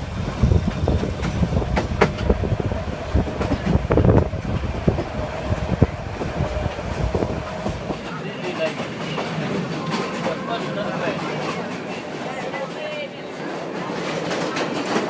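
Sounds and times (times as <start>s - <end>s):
train rumble: 0.0s - 15.0s
wheels clacking over rails: 0.0s - 15.0s.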